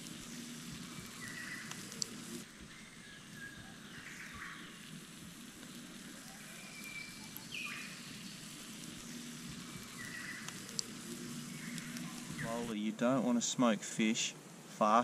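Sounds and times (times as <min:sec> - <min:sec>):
embers hissing and crackling: 0:00.0 - 0:15.0.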